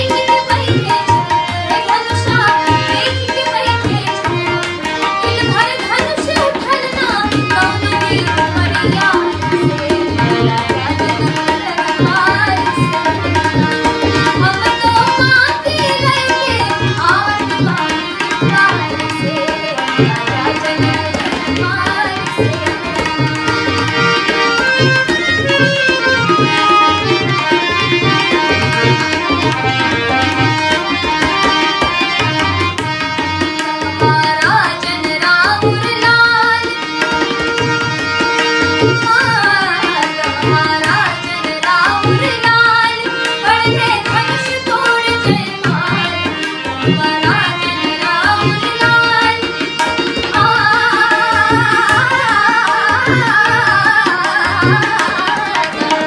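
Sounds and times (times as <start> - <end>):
harmonium notes: 0.0 - 56.0
tabla rhythm: 0.0 - 56.0
woman singing: 0.0 - 56.0.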